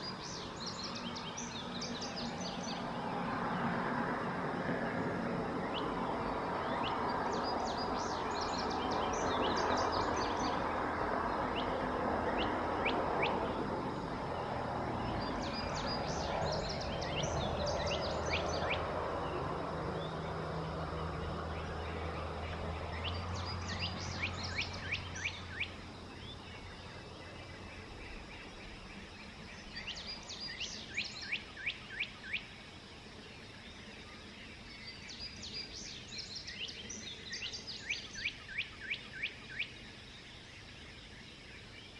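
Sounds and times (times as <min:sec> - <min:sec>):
songbird singing: 0:00.0 - 0:41.9.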